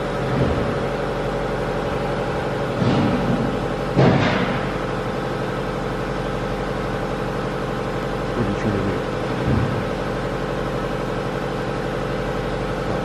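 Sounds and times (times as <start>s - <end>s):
grinding machine humming: 0.0s - 13.0s.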